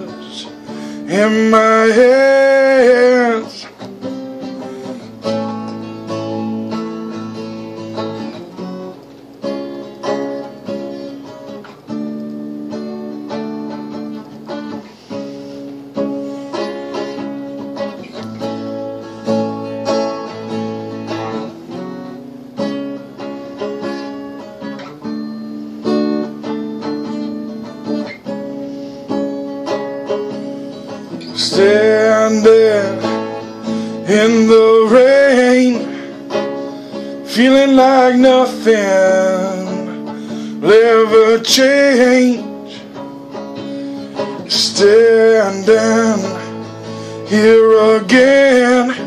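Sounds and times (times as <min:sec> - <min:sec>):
acoustic guitar strumming chords: 0:00.0 - 0:49.0.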